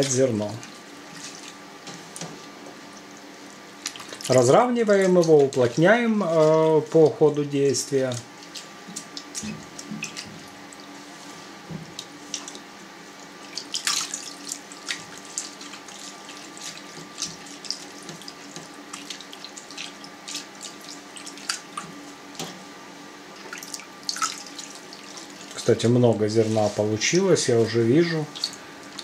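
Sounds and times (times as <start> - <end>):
whey splashing and squelching: 0.0 - 2.5, 3.8 - 11.0, 13.3 - 22.1, 23.4 - 29.0
faint steady hum: 0.0 - 29.0.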